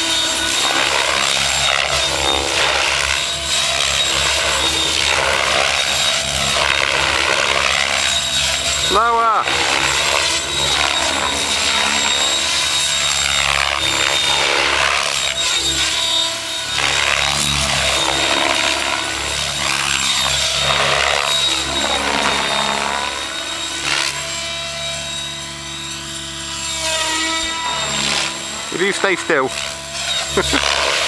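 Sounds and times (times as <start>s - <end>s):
high electric motor whine: 0.0s - 31.0s.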